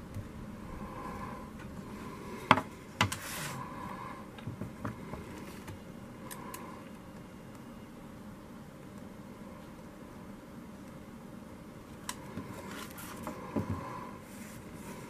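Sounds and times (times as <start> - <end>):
room hiss: 0.0 - 15.0.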